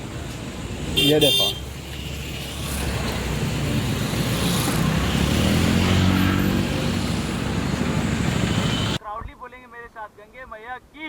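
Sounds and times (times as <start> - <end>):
road noise: 0.0 - 9.0.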